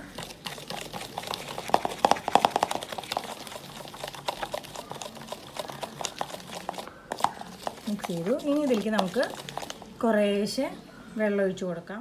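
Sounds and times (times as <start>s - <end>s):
whisk scraping plastic bowl: 0.0s - 10.0s.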